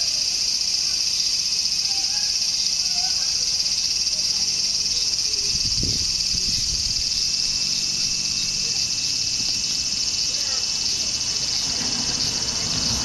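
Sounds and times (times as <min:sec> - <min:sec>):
insect chorus buzzing: 0:00.0 - 0:13.0.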